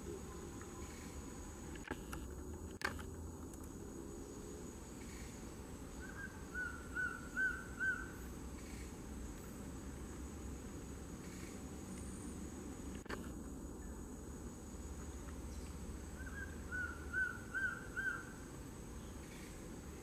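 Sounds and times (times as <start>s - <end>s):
steady high hum: 0.0s - 20.0s.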